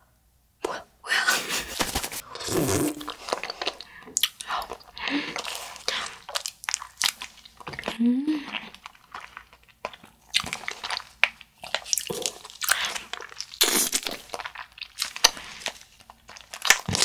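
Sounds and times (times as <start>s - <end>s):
chewing crunchy jelly candies: 2.2s - 17.0s.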